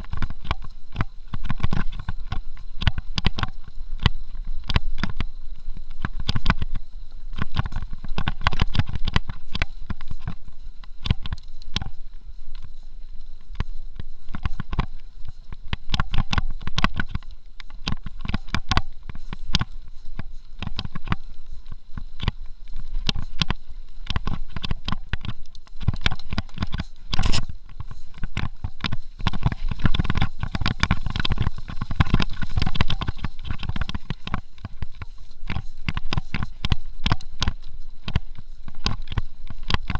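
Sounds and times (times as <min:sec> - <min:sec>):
mountain bike rattling over dirt: 0:00.0 - 0:39.9.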